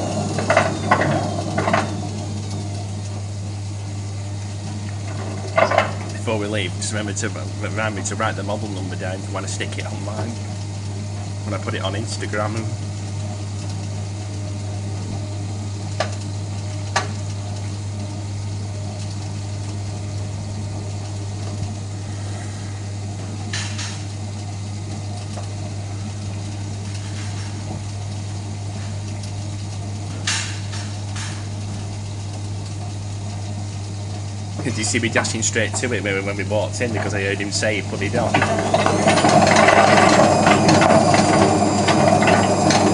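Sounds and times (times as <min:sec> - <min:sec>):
washing machine humming and rumbling: 0:00.0 - 0:42.9.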